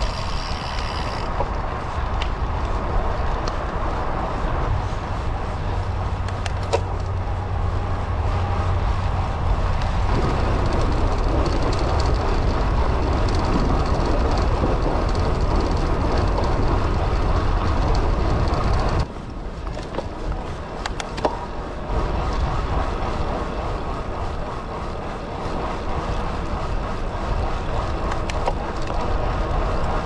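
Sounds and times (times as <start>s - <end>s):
low rumble: 0.0s - 30.0s
wind noise on microphone: 0.0s - 30.0s.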